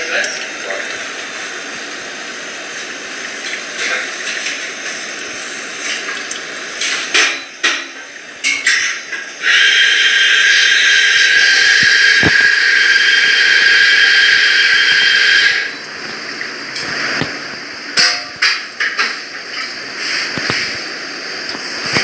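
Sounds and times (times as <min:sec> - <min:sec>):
hot water pouring onto coffee: 0:00.0 - 0:18.8.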